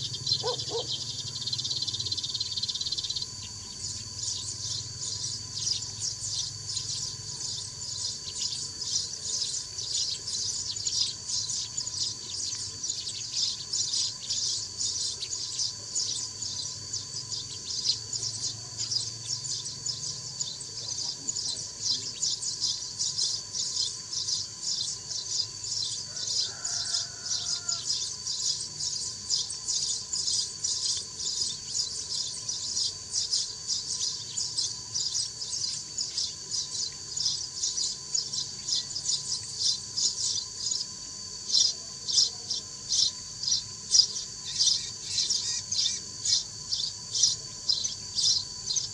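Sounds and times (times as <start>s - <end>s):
sparrows chirping: 0.0s - 48.9s.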